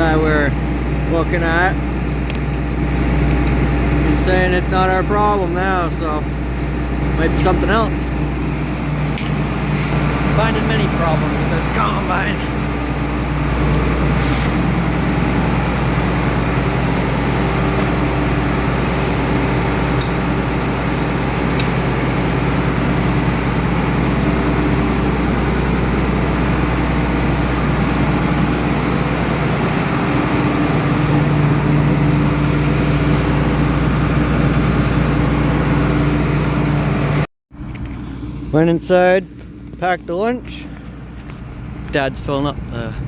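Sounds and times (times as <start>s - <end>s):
combine harvester engine humming: 0.0s - 43.0s.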